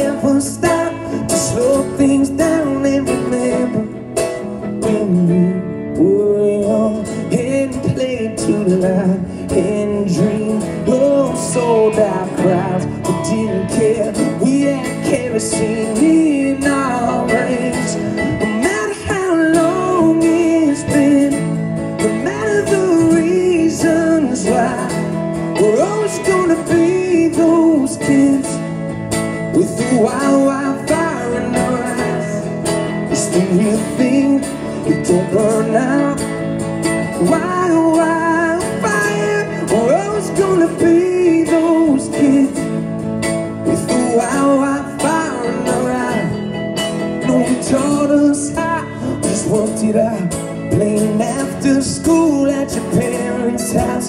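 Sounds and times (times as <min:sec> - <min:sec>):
man singing into a microphone: 0:00.0 - 0:54.0
strummed acoustic guitar: 0:00.0 - 0:54.0.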